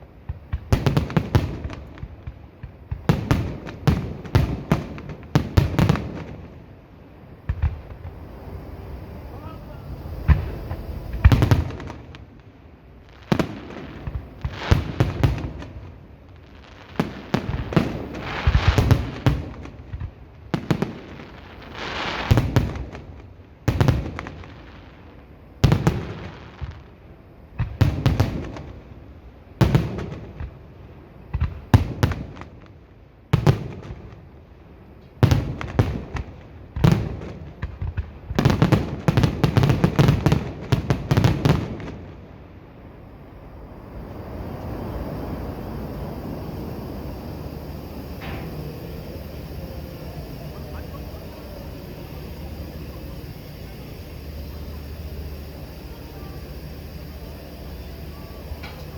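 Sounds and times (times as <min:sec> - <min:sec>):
fireworks crackle: 0:00.0 - 0:58.9
fireworks shells bursting: 0:00.2 - 0:29.0, 0:35.0 - 0:58.9.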